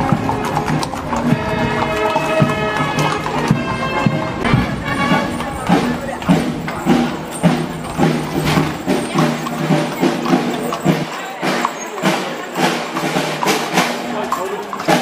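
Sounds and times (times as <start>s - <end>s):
brass band playing a march: 0.0s - 15.0s
horse hooves clopping on pavement: 0.0s - 15.0s.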